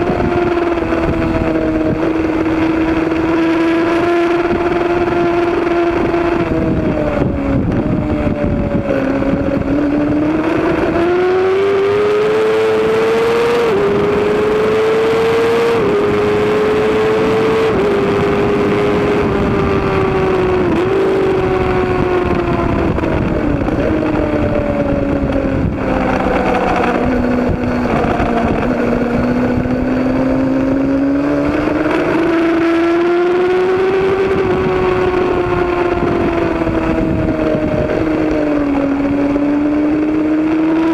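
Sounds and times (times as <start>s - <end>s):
racing motorcycle engine accelerating: 0.0s - 40.9s
wind and track noise: 0.0s - 40.9s.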